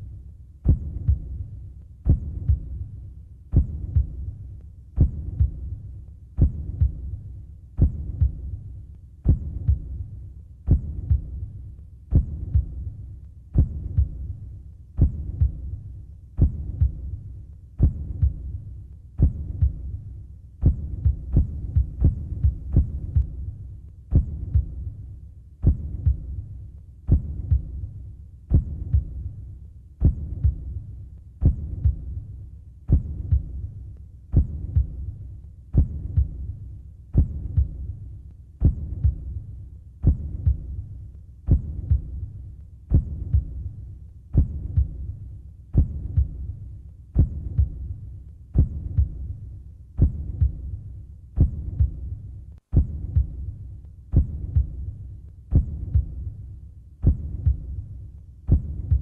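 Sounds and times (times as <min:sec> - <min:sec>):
heartbeat thuds: 0:00.6 - 0:56.4, 0:57.0 - 0:59.0.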